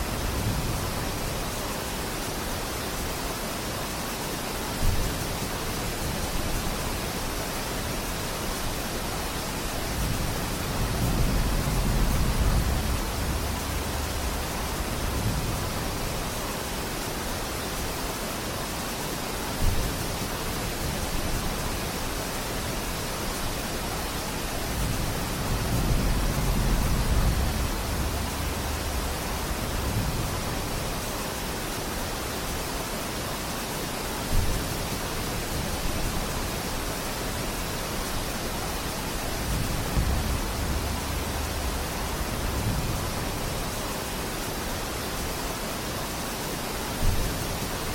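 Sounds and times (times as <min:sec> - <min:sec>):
steady rain in a forest: 0:00.0 - 0:47.9.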